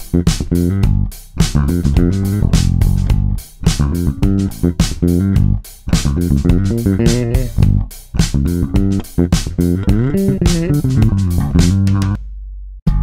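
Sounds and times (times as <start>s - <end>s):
electric bass fingerstyle run: 0.0s - 13.0s.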